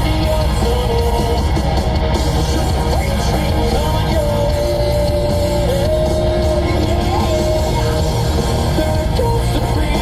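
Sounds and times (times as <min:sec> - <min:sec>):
heavy metal rock music: 0:00.0 - 0:10.0.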